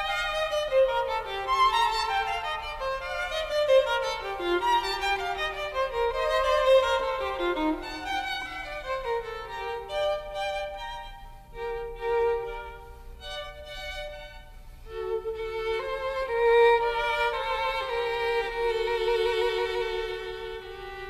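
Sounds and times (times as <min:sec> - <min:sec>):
slow violin melody: 0:00.0 - 0:21.0.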